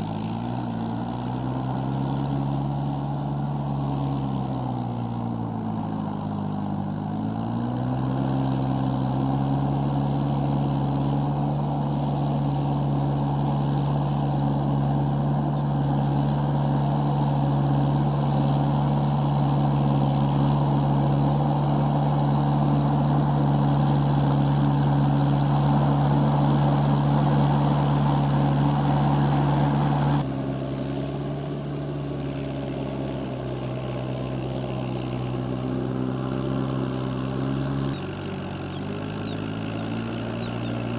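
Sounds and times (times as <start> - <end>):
tractor diesel engine under load: 0.0 - 40.9.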